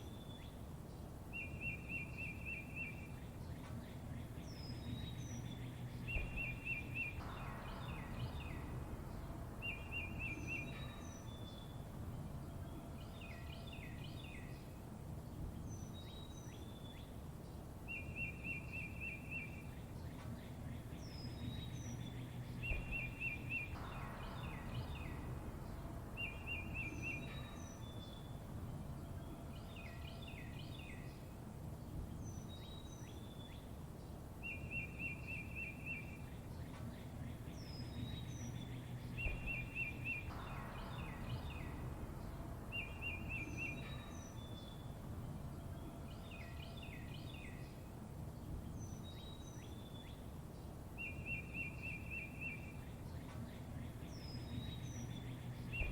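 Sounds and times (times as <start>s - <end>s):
low background rumble: 0.0s - 55.9s
songbirds chirping: 0.0s - 55.9s.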